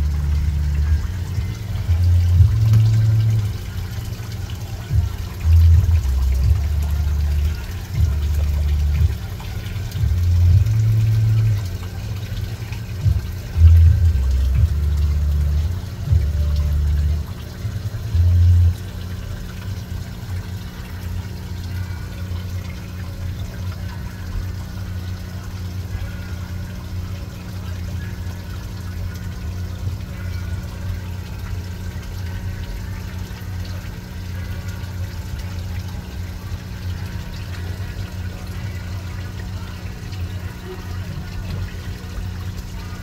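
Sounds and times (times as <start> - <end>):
low mains hum: 0.0 - 43.0
water trickling: 0.0 - 43.0.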